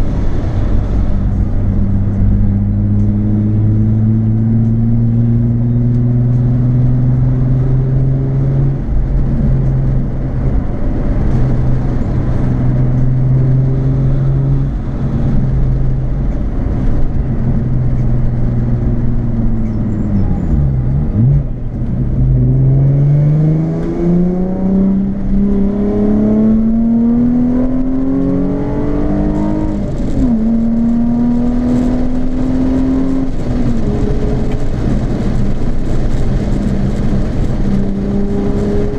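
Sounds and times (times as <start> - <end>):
car engine through exhaust: 0.0 - 38.9.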